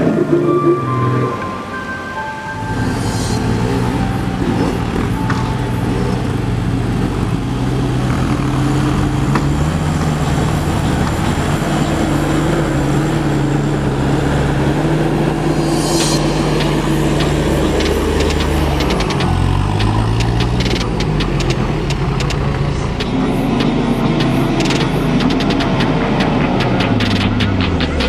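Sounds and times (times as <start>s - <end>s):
off-road vehicle engine under load: 2.6s - 28.0s.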